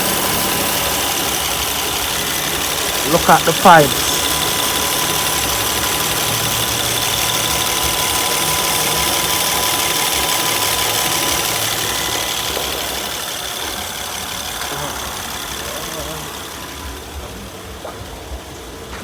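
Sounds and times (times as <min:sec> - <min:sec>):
air conditioning compressor cycling: 0:00.0 - 0:19.0
car engine idling: 0:00.0 - 0:19.0.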